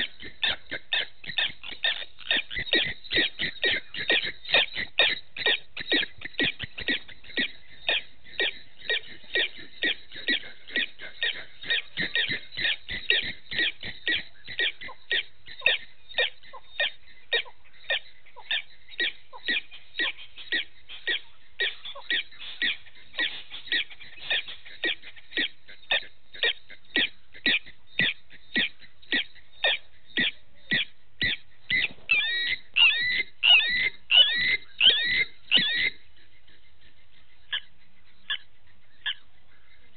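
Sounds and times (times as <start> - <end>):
animal high calls: 0.0 - 36.0.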